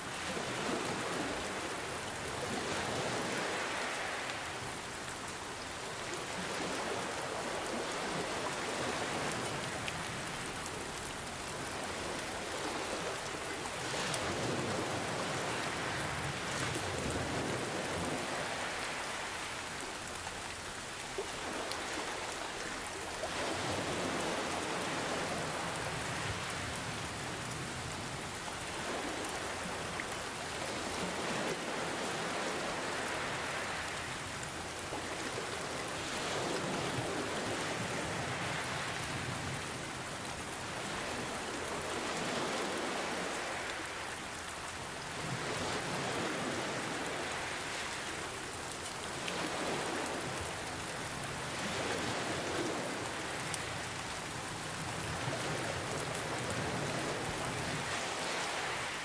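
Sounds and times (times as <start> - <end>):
ocean waves: 0.0 - 59.0
steady rain: 0.0 - 59.0.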